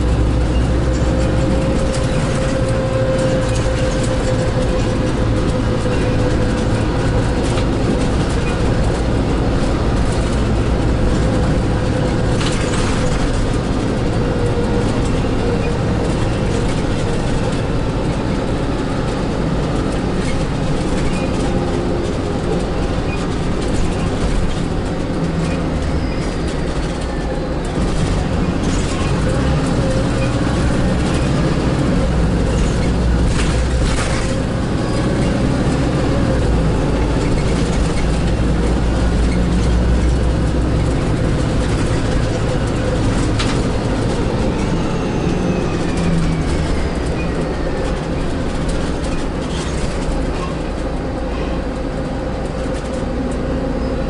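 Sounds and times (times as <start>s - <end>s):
bus diesel engine hum: 0.0s - 54.0s
road noise: 0.0s - 54.0s.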